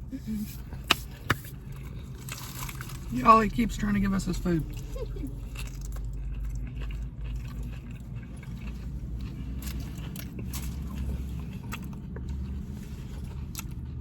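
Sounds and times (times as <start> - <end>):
chewing and crunching food: 0.4 - 14.0.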